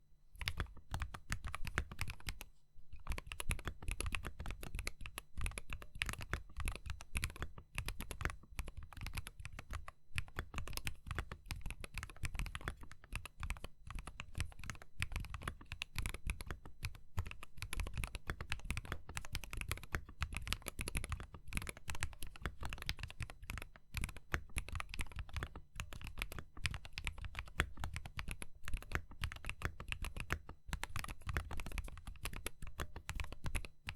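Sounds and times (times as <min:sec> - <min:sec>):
fast mechanical keyboard typing: 0:00.4 - 0:02.4, 0:03.1 - 0:33.9.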